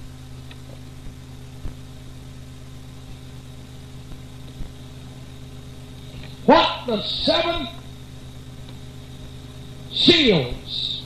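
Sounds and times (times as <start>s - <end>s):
low hum: 0.0s - 11.0s
recording hiss: 0.0s - 11.0s.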